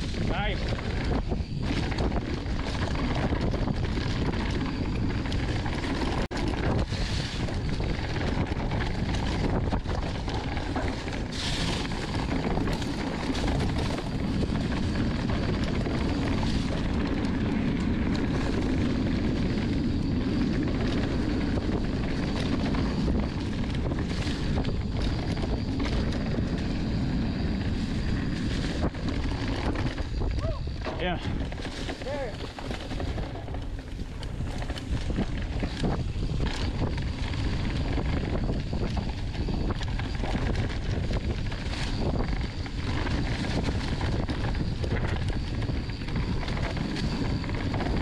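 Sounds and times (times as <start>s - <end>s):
bike rattling and knocking: 0.0s - 48.0s
tyres rolling over dirt and rocks: 0.0s - 48.0s
wind rushing over microphone: 0.0s - 48.0s.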